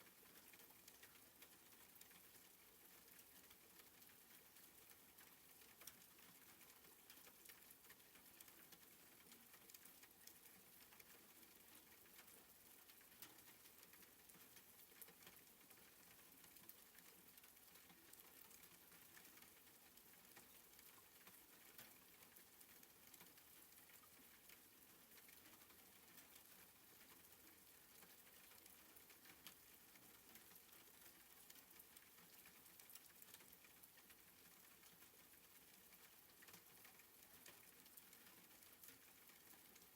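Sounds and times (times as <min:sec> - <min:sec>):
raindrop clicks: 0:00.0 - 0:39.9
soft rain pattering: 0:00.0 - 0:39.9.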